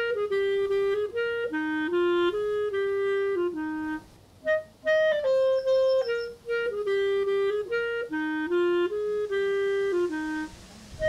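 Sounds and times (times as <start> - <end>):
solo woodwind melody: 0.0 - 11.0.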